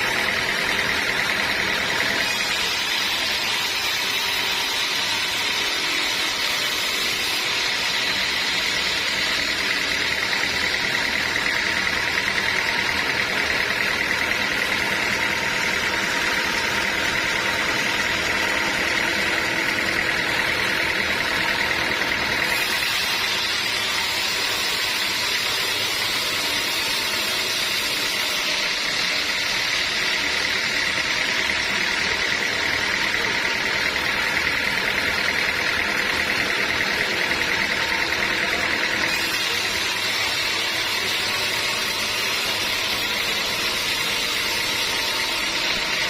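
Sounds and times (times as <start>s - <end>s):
band saw whirring and hissing: 0.0s - 46.0s.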